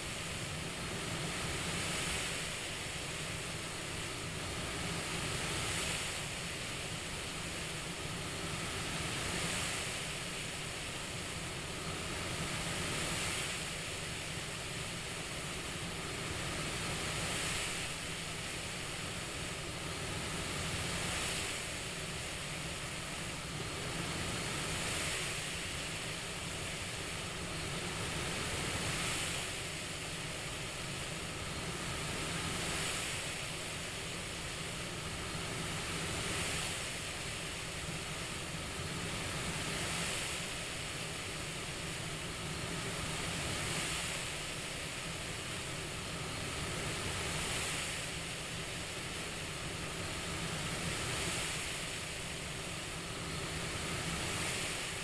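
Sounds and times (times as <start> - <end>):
cpap airflow hiss: 0.0 - 55.0.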